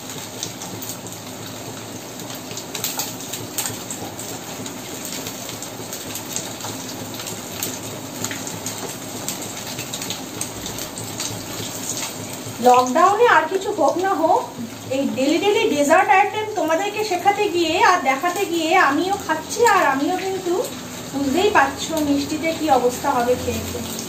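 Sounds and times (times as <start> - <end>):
oil crackling and spattering: 0.0 - 14.9, 16.2 - 24.0
food sizzling in hot oil: 0.0 - 24.0.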